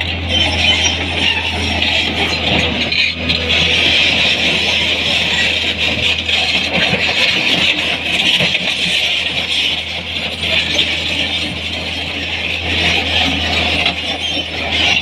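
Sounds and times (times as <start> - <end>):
excavator engine hum: 0.0 - 15.0.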